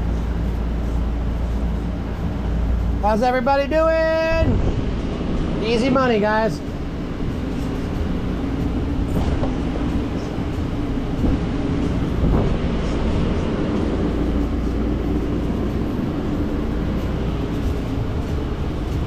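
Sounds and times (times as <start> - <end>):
low mechanical drone of machinery: 0.0 - 19.0.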